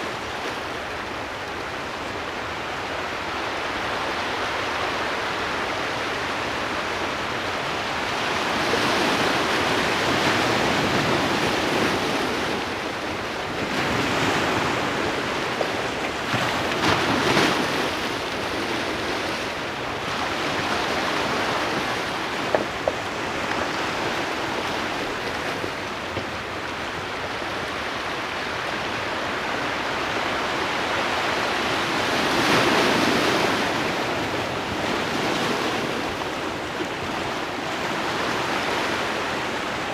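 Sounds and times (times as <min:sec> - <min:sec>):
surf rushing: 0:00.0 - 0:39.9.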